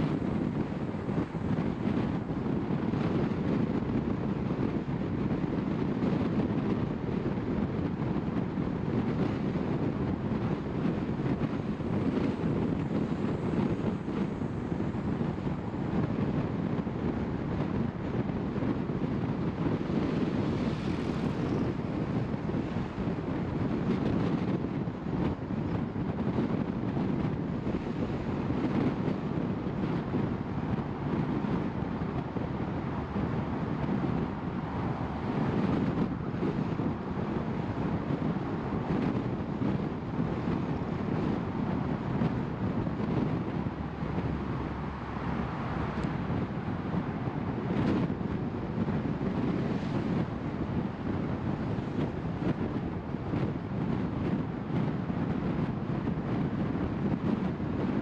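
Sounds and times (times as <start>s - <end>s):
car driving on road: 0.0s - 58.0s
wind noise: 0.0s - 58.0s.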